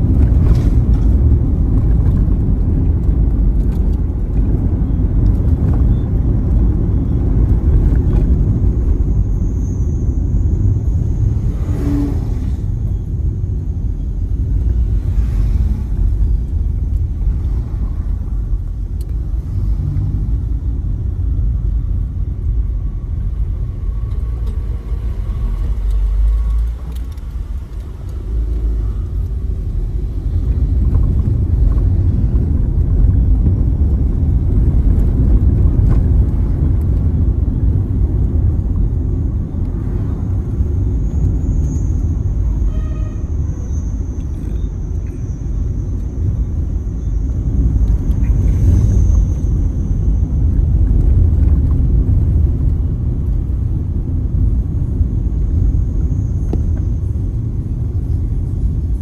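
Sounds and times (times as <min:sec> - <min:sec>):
car engine and tyres from inside: 0:00.0 - 0:59.0.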